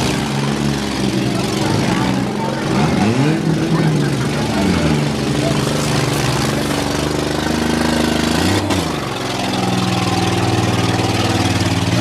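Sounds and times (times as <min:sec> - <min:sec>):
car engines running loudly: 0:00.0 - 0:12.0.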